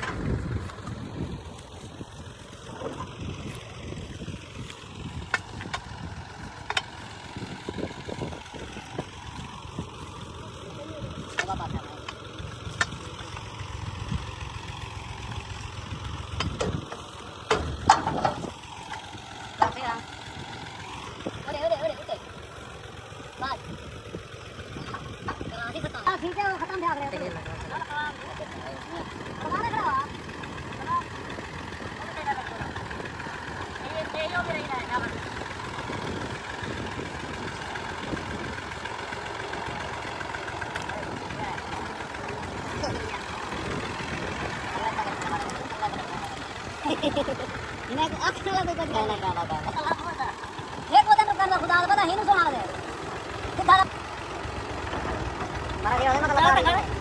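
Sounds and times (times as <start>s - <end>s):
combine harvester running: 0.0s - 57.0s
diesel engine rumbling: 0.0s - 57.0s.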